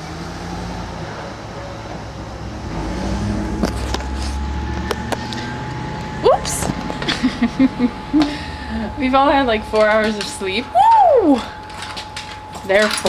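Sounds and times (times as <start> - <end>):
car engine rumbling: 0.0 - 12.5.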